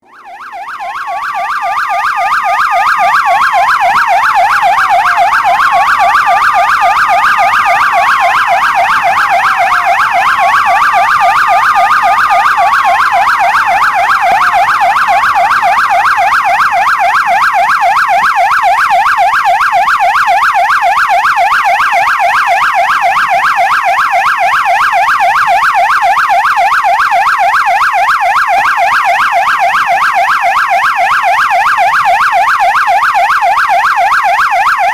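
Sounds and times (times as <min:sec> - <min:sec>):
police siren yelping: 0:00.0 - 0:34.9
siren wail: 0:00.0 - 0:34.9.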